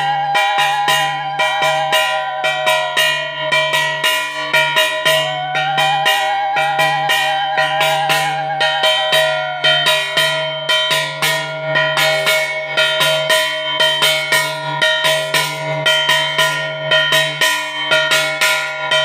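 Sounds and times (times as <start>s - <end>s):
brass plate struck with stick: 0.0s - 19.0s.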